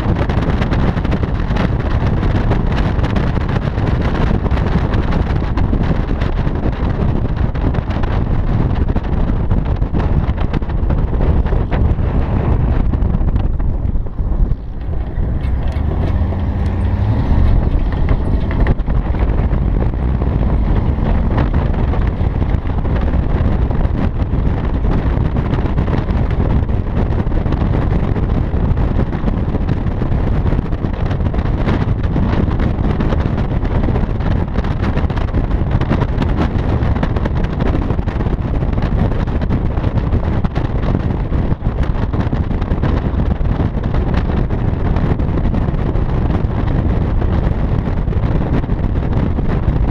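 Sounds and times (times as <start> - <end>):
car rumbling: 0.0 - 49.9
wind buffeting microphone: 0.0 - 49.9.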